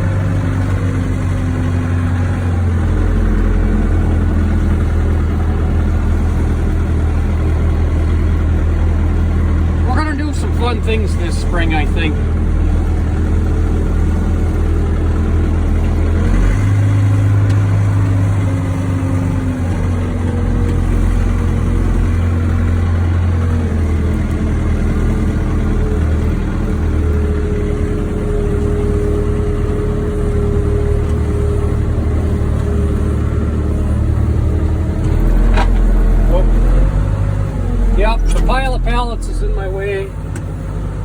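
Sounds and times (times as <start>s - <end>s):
diesel engine revving: 0.0s - 41.0s.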